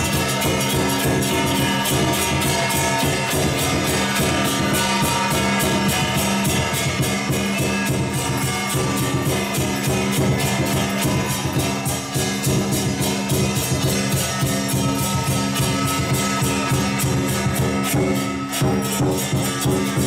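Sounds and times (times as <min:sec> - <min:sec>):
percussion with clashing cymbals: 0:00.0 - 0:20.0
steady ringing tones: 0:00.0 - 0:20.0.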